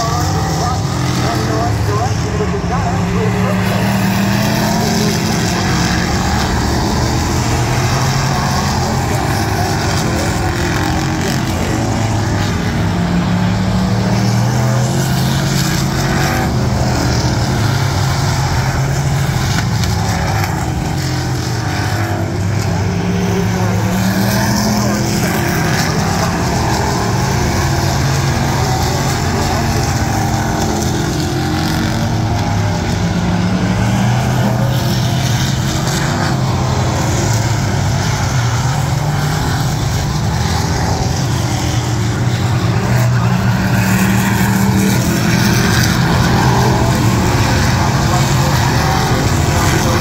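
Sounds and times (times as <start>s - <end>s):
race car engines revving: 0.0s - 50.0s.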